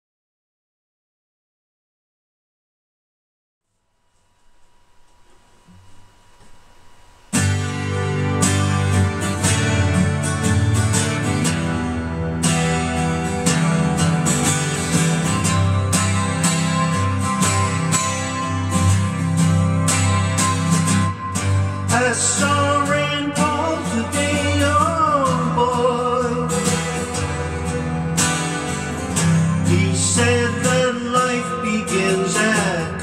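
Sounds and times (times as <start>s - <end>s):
acoustic guitar strumming chords: 4.4s - 33.0s.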